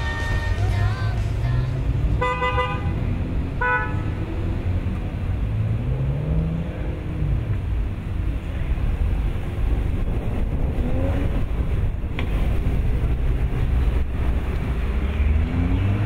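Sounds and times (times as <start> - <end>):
sports cars driving past: 0.4 - 16.0.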